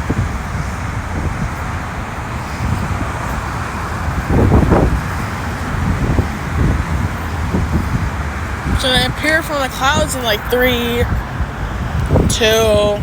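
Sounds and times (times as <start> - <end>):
low outdoor rumble: 0.0 - 13.0
wind buffeting microphone: 0.0 - 13.0.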